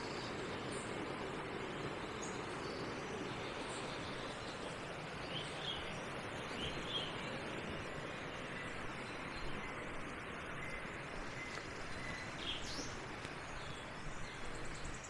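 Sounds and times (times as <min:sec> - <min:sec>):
brook rushing over stones: 0:00.0 - 0:15.0.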